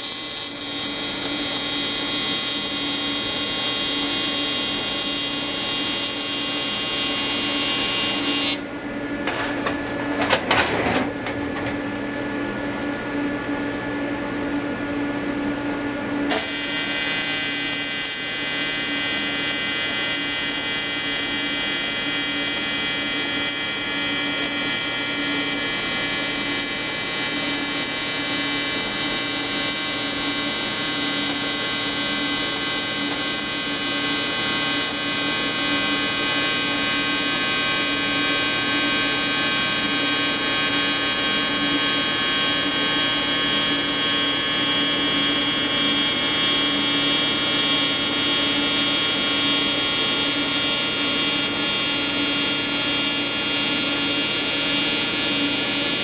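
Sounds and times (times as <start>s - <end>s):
welding arc buzzing: 0.0s - 10.4s, 16.3s - 56.0s.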